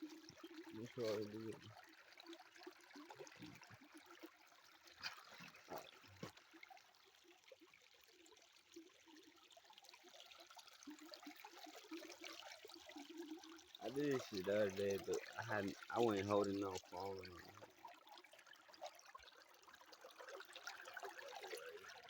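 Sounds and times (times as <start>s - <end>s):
faint flowing river water: 0.0s - 22.0s.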